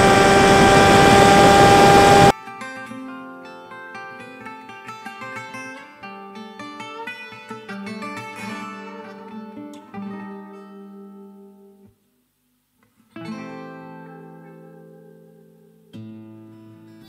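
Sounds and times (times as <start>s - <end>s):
acoustic guitar music: 2.1s - 12.0s, 12.9s - 17.0s.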